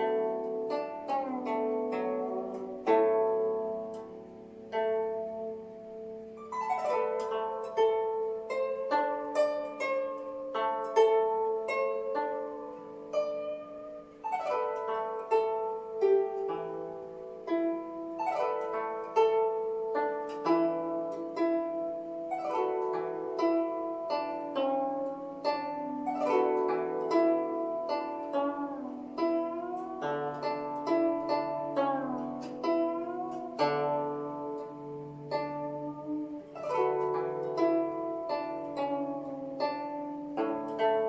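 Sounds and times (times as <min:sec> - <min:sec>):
zither melody: 0:00.0 - 0:41.0.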